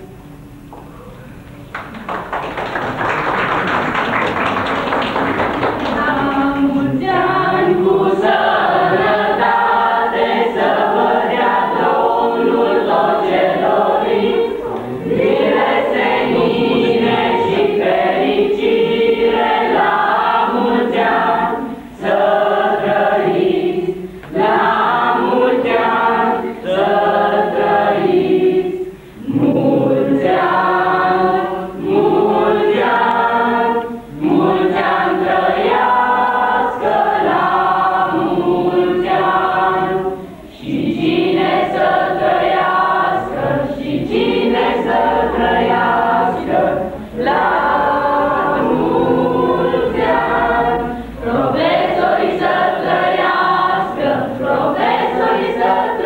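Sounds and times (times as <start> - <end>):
choir singing: 2.7 - 56.0.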